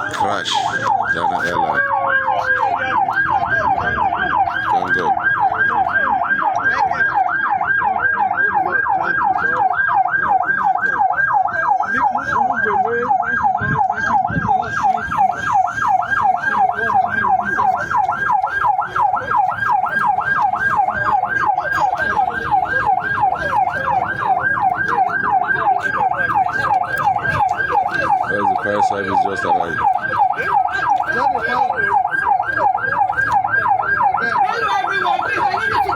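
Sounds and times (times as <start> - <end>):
fire engine siren yelping: 0.0 - 35.9.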